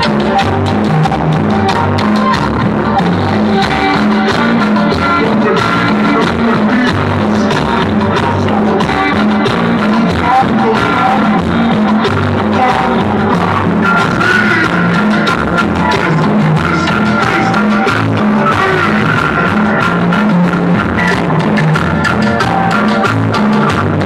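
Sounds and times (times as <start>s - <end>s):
loud dance music with singing: 0.0s - 24.0s.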